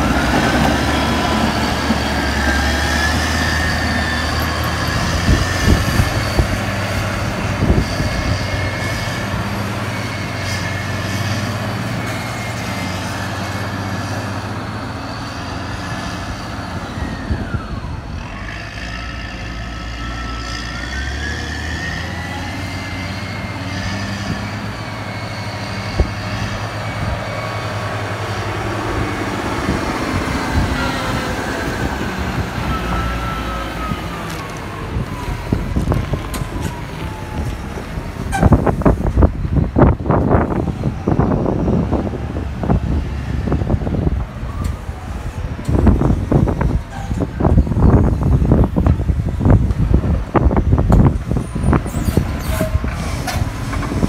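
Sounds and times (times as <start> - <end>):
diesel engine under load: 0.0 - 54.0
grader scraping road bed: 0.0 - 54.0.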